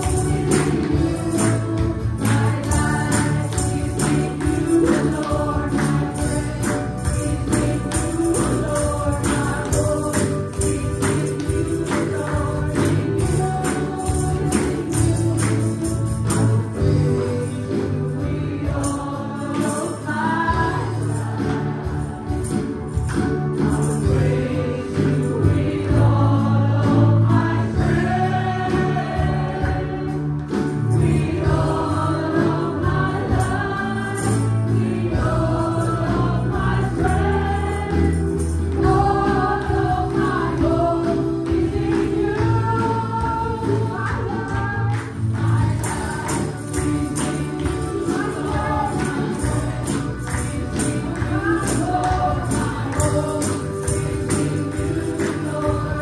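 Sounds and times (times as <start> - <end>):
tambourines shaken: 0.0 - 56.0
women singing gospel song: 0.0 - 56.0.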